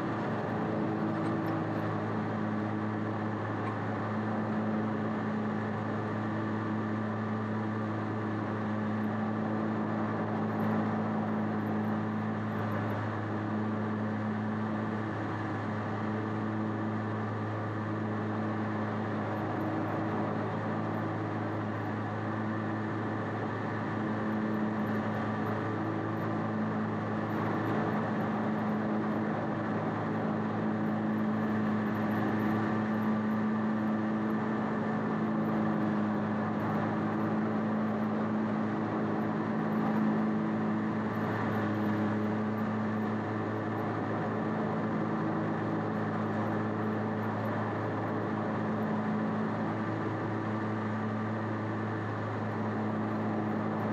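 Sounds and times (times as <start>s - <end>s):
riding mower engine droning: 0.0s - 53.9s.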